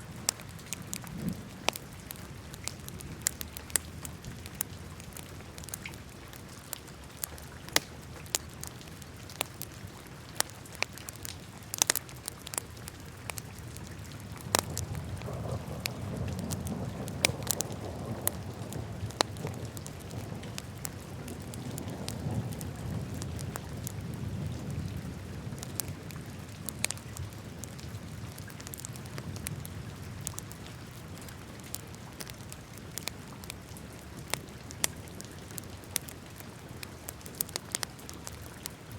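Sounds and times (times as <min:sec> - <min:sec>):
fire pops and snaps: 0:00.2 - 0:22.3, 0:26.7 - 0:29.6, 0:30.2 - 0:30.6, 0:31.2 - 0:38.9.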